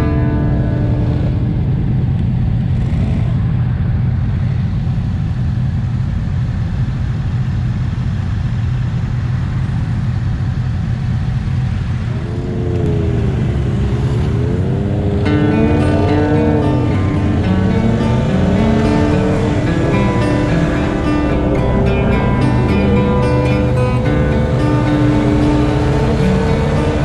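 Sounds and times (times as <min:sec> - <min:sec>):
motorcycle engine revving: 0:00.0 - 0:27.0
motorcycles idling: 0:00.0 - 0:27.0.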